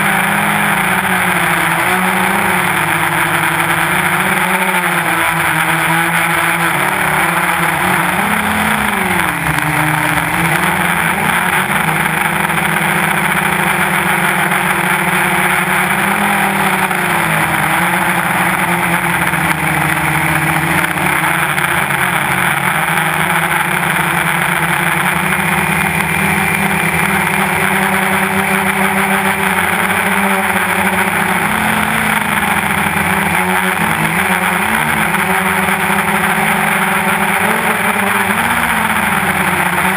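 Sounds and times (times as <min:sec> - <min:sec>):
quadcopter motors buzzing: 0:00.0 - 0:39.9
steady rushing noise: 0:00.0 - 0:39.9.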